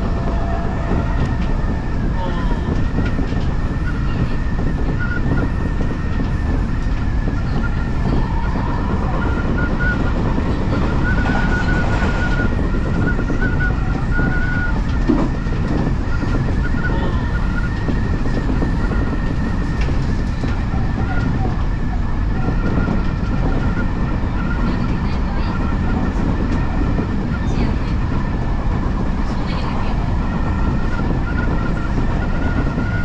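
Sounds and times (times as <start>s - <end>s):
train rumble on rails: 0.0s - 33.0s.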